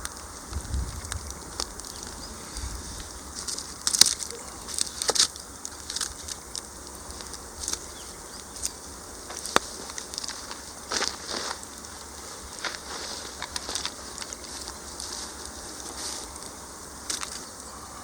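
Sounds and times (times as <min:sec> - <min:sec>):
wood fire crackling and popping: 0:00.0 - 0:17.8.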